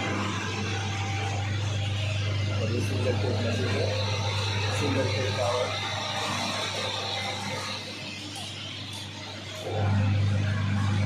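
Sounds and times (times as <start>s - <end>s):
mixer motor humming: 0.0s - 11.0s.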